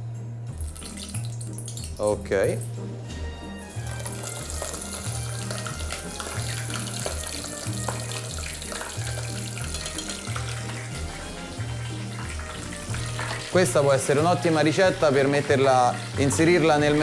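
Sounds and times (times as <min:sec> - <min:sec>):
background music with bass line: 0:00.0 - 0:17.0
deep-frying crackling sizzle: 0:00.5 - 0:17.0.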